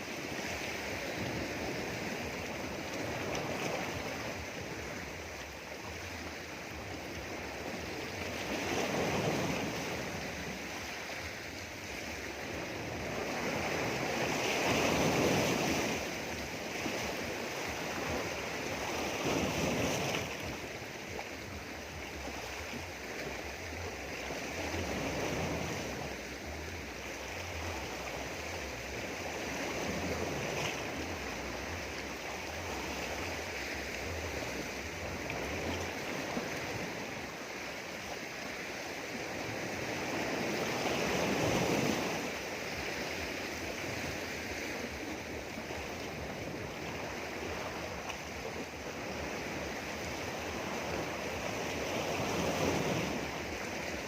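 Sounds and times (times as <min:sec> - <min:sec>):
sea waves washing over rocks: 0:00.0 - 0:54.0.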